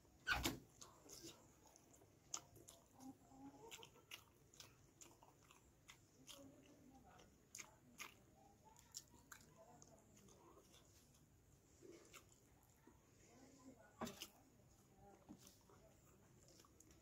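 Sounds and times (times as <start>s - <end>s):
faint close-up chewing: 0.0s - 17.0s.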